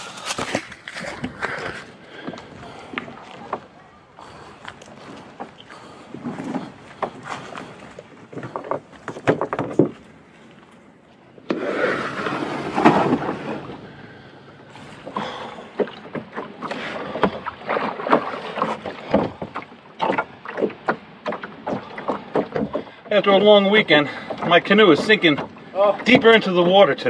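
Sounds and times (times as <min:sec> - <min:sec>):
paddle splashing in water: 0:00.0 - 0:27.0.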